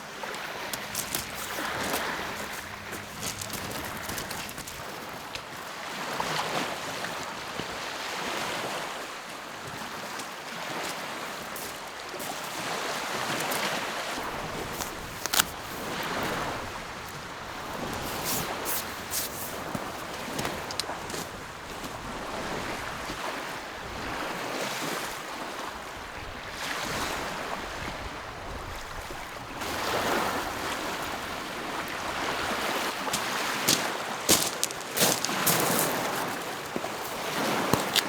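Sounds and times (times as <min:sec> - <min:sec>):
small waves washing on shore: 0:00.0 - 0:38.0.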